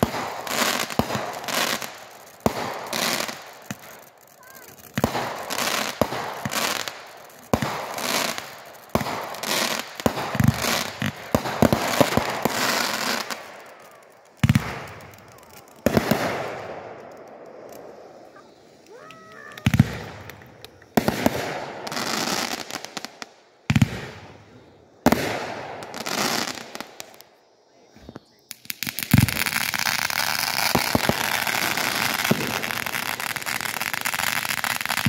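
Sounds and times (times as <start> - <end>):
firework bangs and crackling: 0.0 - 35.0.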